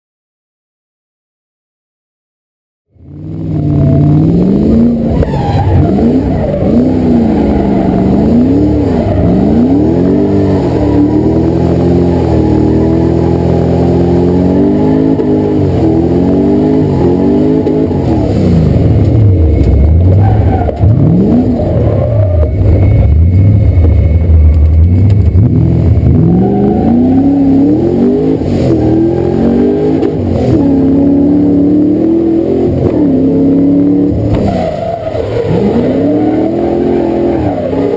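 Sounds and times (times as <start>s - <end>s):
car engine revving: 3.0s - 37.9s.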